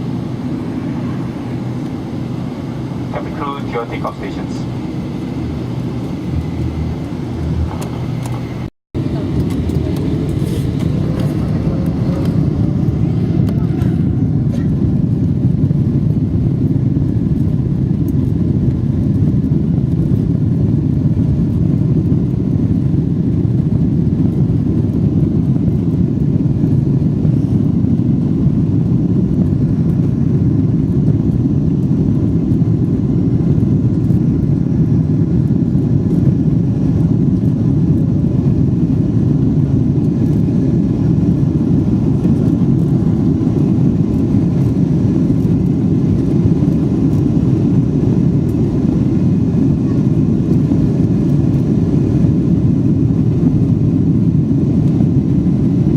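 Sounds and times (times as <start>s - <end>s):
airplane cabin low rumble: 0.0s - 55.9s.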